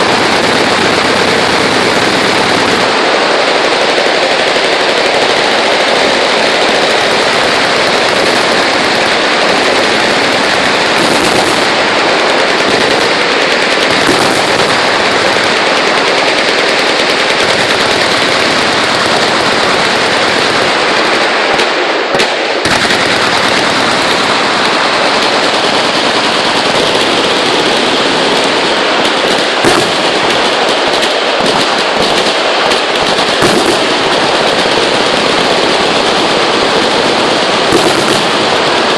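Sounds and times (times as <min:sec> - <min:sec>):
machine guns firing: 0:00.0 - 0:38.9.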